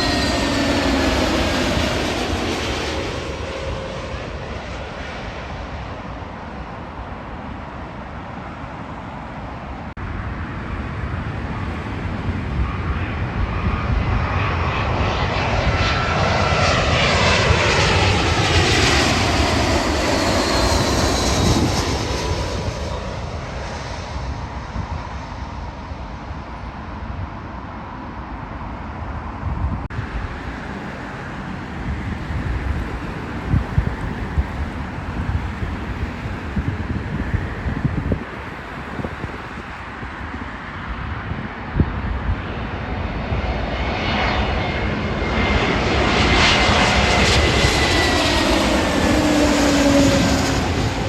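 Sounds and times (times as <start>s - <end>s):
jet airliner flying past: 0.0s - 51.0s.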